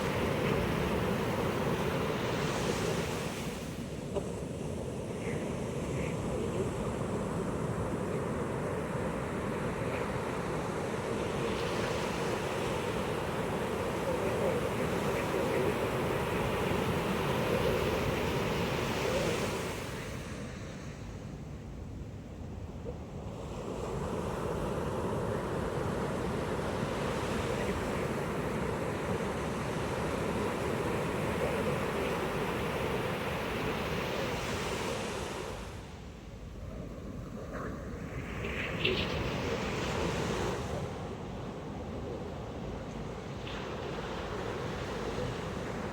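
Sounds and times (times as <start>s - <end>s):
ocean waves breaking on beach: 0.0s - 21.5s, 23.0s - 45.9s.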